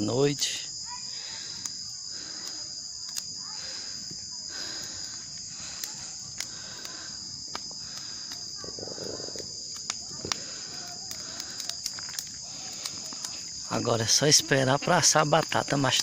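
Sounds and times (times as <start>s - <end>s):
bonfire popping and crackling: 0.0s - 16.0s
crickets trilling: 0.0s - 16.0s.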